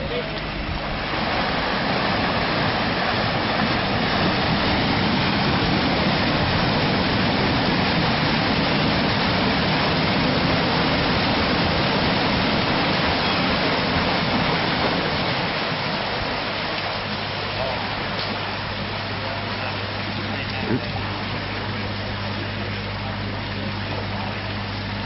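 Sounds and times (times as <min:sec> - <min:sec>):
paddle wheel churning water: 0:00.0 - 0:25.0.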